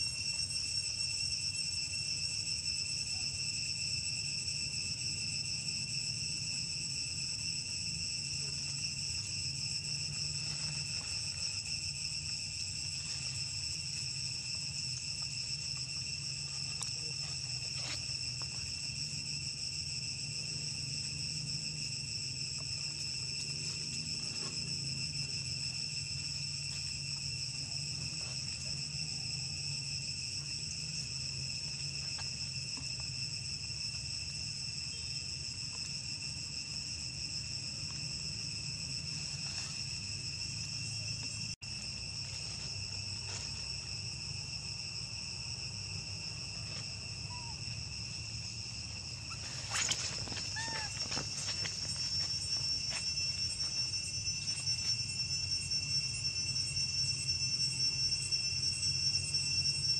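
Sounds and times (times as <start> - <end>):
insect chorus high-pitched drone: 0.0 - 59.9.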